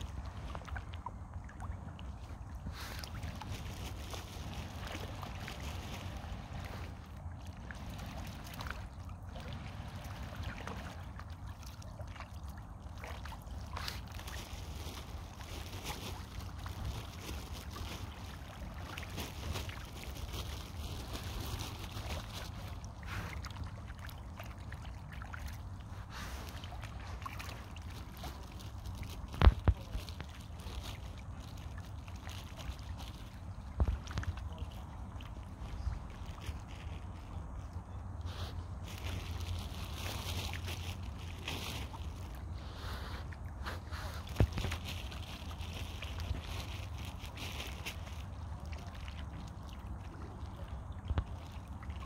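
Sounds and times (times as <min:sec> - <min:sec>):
wind rumble on microphone: 0:00.0 - 0:42.7
water sloshing and splashing: 0:00.0 - 0:52.0.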